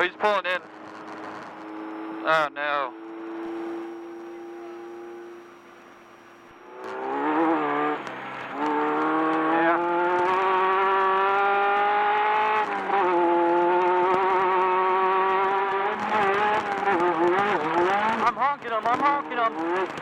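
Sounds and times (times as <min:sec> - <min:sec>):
buggy engine revving high: 0:00.0 - 0:20.0.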